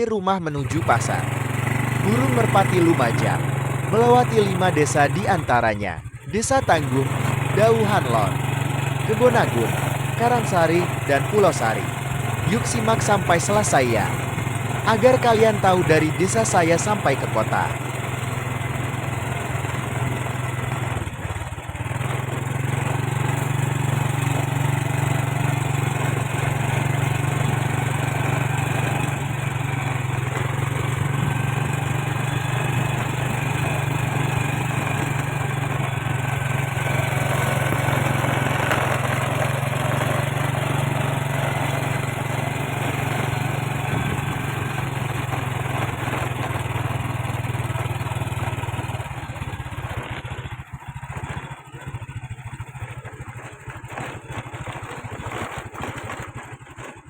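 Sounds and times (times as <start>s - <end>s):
vehicle engine cruising: 0.0s - 57.0s
road and wind noise: 0.6s - 57.0s.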